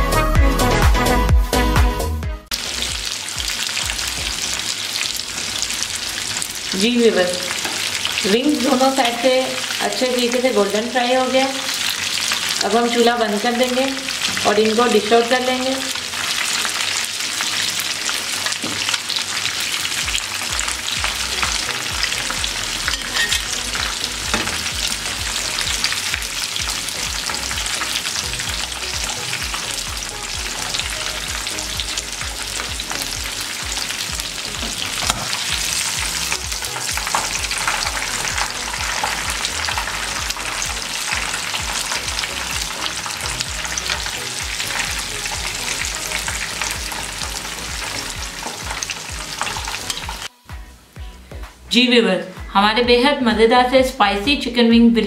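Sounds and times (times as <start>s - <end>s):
oil sizzling and bubbling: 2.4s - 51.7s.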